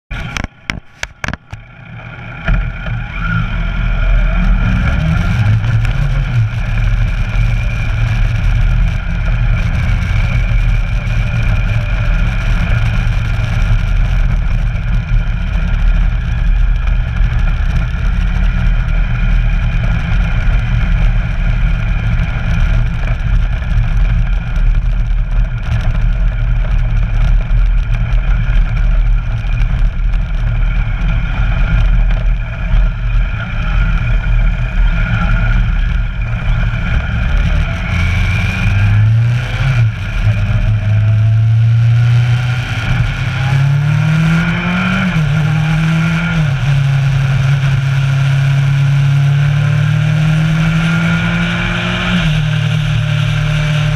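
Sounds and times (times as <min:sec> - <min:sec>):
road rumble: 0:00.0 - 0:53.9
wind: 0:00.1 - 0:53.9.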